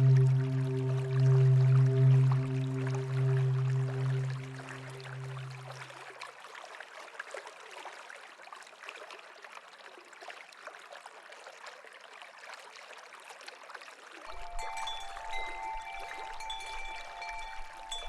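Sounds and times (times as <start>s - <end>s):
stream trickling and splashing: 0.0s - 18.0s.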